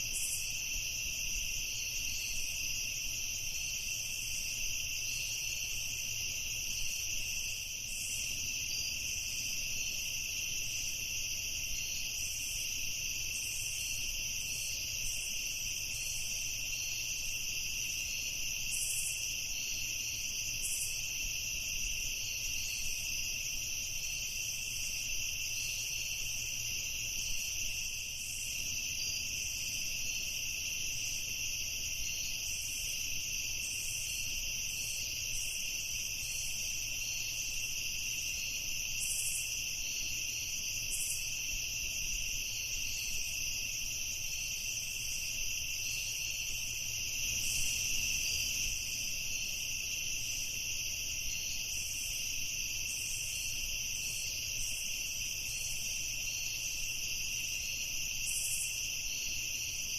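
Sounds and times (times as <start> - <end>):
insects chirping: 0.0 - 59.9
insects trilling: 0.0 - 59.9.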